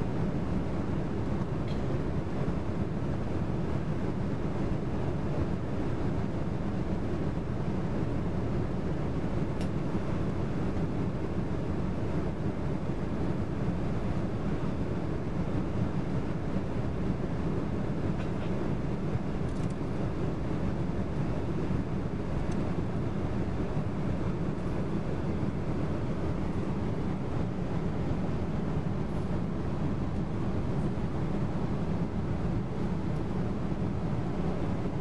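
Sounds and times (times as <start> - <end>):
airliner cabin roar: 0.0 - 35.0.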